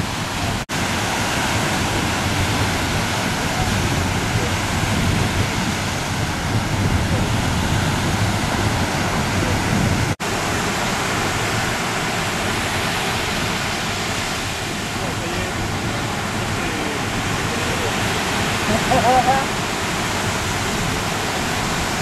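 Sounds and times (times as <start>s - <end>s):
water rushing on open sea: 0.0s - 22.0s
wind: 0.0s - 22.0s.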